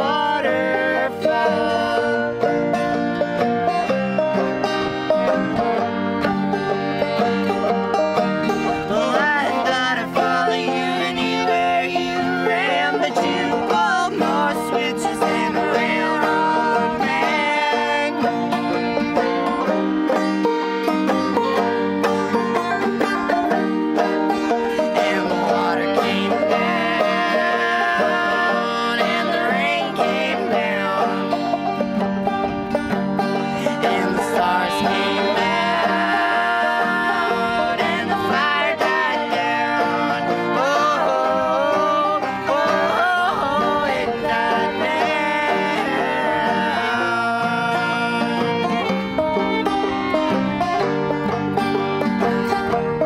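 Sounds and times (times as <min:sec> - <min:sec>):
acoustic guitar: 0:00.0 - 0:53.0
banjo: 0:00.0 - 0:53.0
fiddle: 0:00.0 - 0:53.0.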